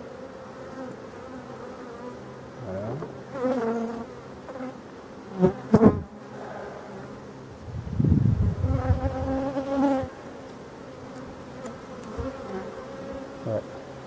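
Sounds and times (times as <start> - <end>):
bees humming: 0.0 - 14.0.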